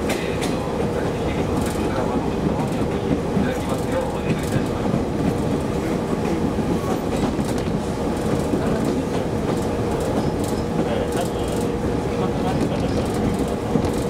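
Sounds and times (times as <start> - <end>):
railcar engine and wheels rumbling: 0.0 - 14.0
wheels clacking over rail joints: 0.0 - 14.0.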